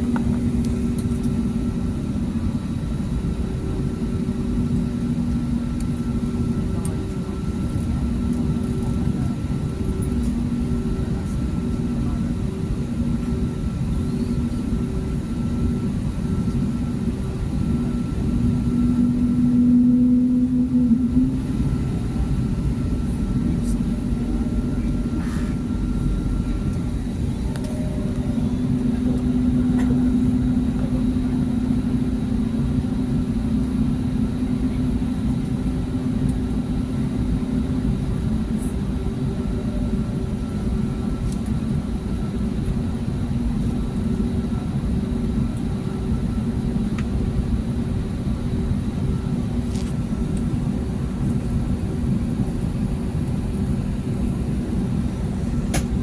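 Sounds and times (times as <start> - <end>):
aircraft engine hum in cabin: 0.0 - 56.0.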